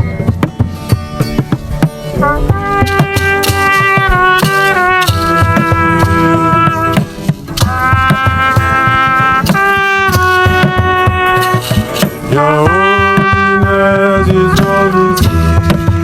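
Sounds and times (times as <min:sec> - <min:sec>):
bass: 0:00.0 - 0:16.0
drums: 0:00.0 - 0:16.0
lead instrument long held notes: 0:01.2 - 0:16.0.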